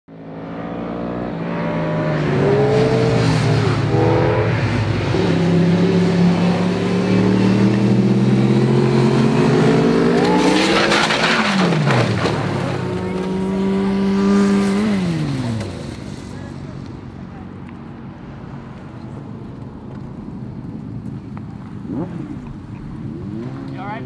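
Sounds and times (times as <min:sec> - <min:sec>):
sport motorcycle engines revving: 0:00.2 - 0:17.6, 0:21.2 - 0:24.0.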